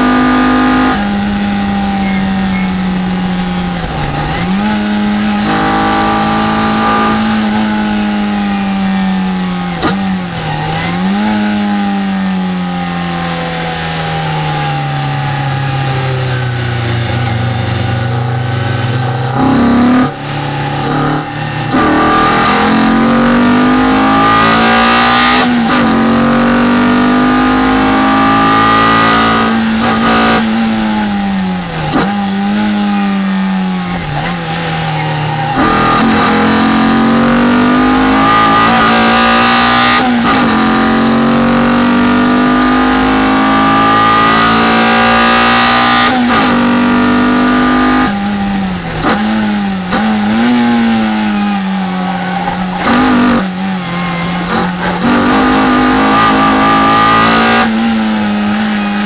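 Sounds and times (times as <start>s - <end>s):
car engine revving in cabin: 0.0s - 59.0s.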